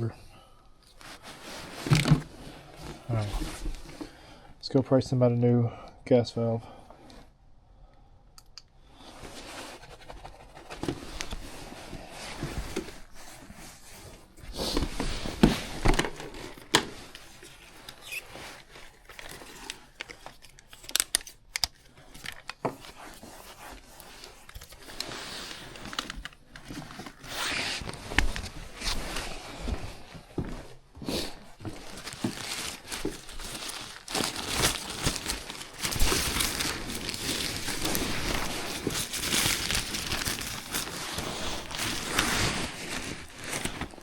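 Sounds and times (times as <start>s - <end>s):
rustling and crinkling: 0.8s - 4.3s, 9.0s - 44.0s.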